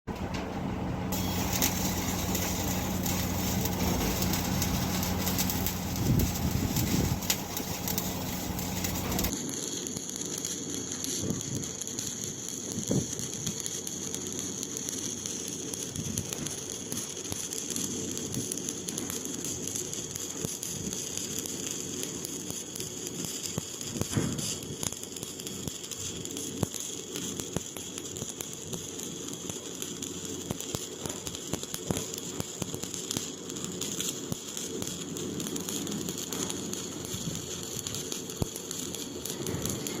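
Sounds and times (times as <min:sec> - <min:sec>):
sharp welding pops: 0:00.1 - 0:40.0
welding arc crackling and sizzling: 0:00.1 - 0:40.0.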